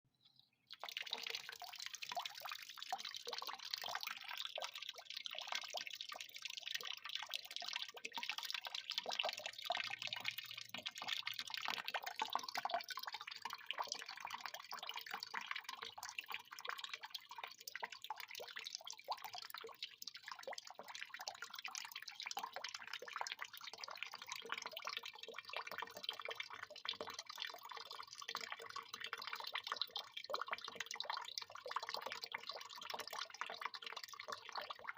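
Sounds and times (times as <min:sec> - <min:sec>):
water pouring and splashing: 0:00.7 - 0:34.9.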